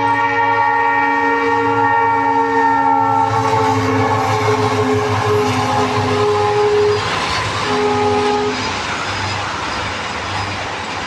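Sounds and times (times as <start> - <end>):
locomotive multi-tone horn: 0.0 - 8.9
low rumble of train: 0.0 - 11.0.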